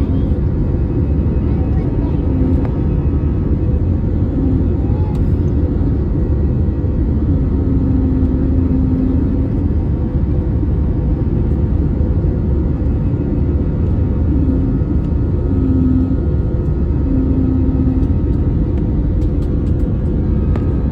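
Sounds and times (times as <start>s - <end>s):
airplane engines rumbling in cabin: 0.0s - 20.9s.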